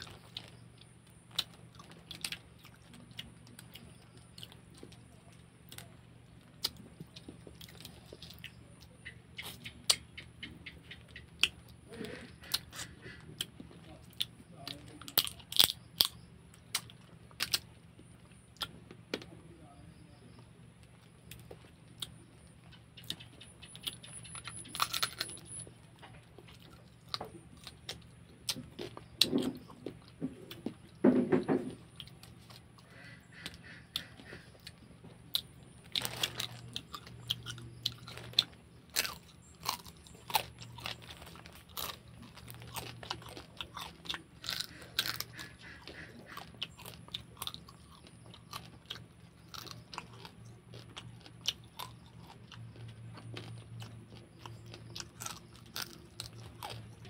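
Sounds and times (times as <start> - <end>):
chewing: 0.0 - 19.3, 20.3 - 57.0.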